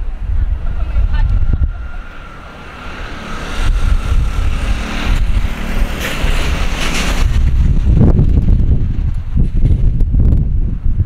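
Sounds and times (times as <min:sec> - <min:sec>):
jet airliner rumble: 0:00.0 - 0:11.0
wind buffeting microphone: 0:00.0 - 0:11.0.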